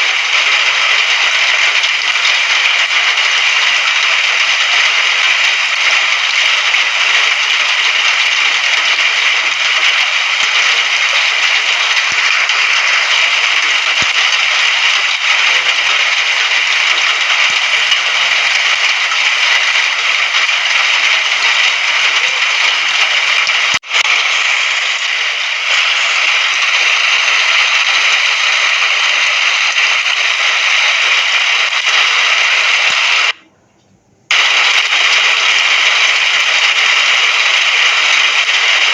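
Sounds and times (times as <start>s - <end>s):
dense rain hiss: 0.0s - 33.4s, 34.3s - 38.9s.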